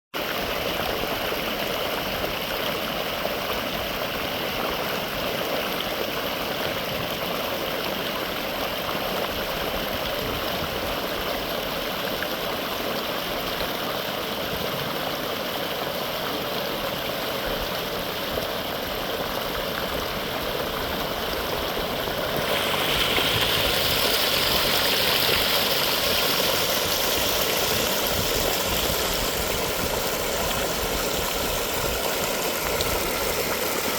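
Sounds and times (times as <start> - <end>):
mountain stream rushing: 0.2 - 33.9.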